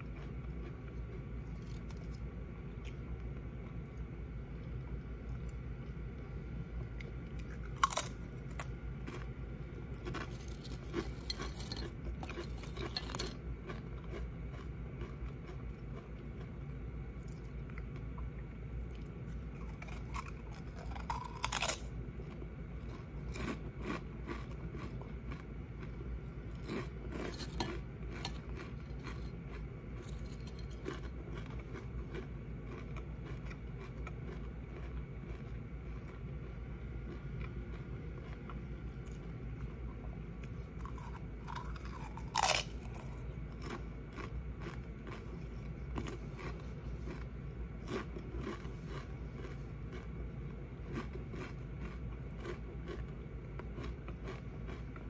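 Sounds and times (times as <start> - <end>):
crunching chips: 0.0 - 4.0, 6.9 - 16.6, 18.8 - 36.3, 40.4 - 50.2, 50.8 - 55.0
quiet chewing: 0.0 - 16.6, 17.2 - 55.0.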